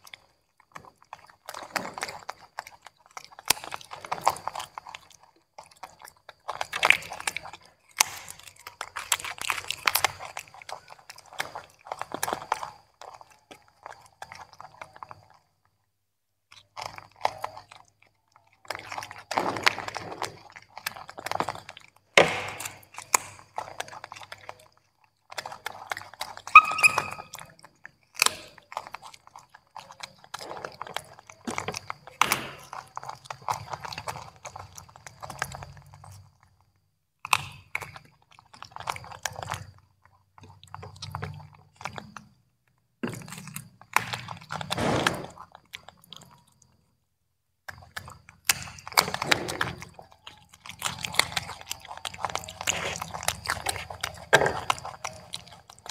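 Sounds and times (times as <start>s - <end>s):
monkeys chewing crunchy vegetables: 0.0s - 55.9s.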